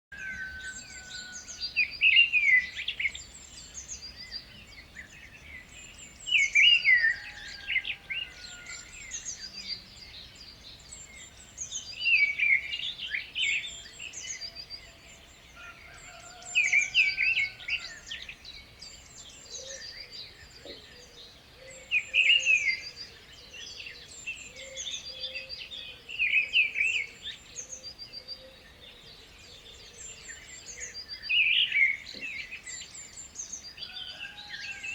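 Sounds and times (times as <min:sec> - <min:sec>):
songbirds chirping and calling: 0:00.1 - 0:34.9.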